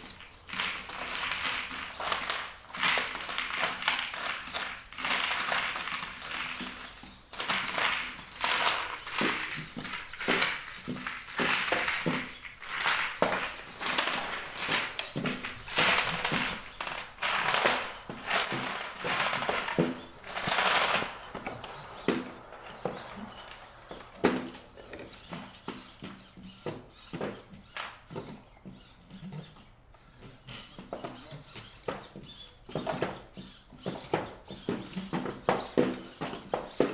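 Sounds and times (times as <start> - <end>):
robot legs clattering and whirring: 0.0 - 33.0.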